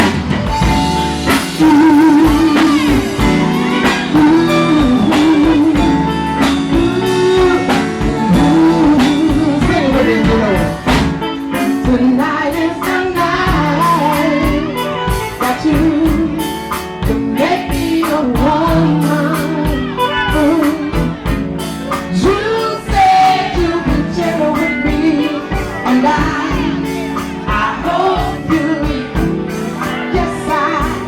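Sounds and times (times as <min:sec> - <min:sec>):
blues band playing: 0:00.0 - 0:31.0
person singing: 0:00.0 - 0:31.0.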